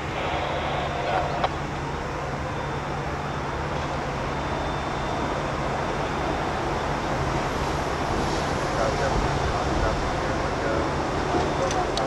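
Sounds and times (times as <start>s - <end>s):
distant train engine rumble: 0.0s - 12.0s
outdoor noise: 0.0s - 12.0s.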